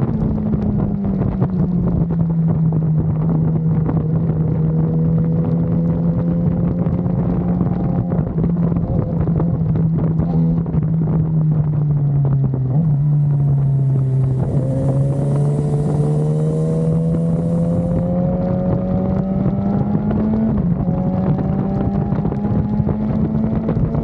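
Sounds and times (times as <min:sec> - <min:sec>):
motorcycle engine accelerating: 0:00.0 - 0:24.0
wind on microphone: 0:00.0 - 0:24.0.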